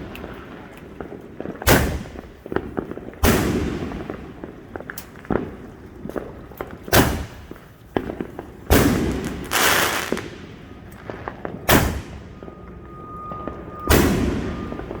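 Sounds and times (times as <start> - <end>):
fireworks pops and crackle: 0.0 - 12.6
fireworks loud bangs: 0.3 - 12.6.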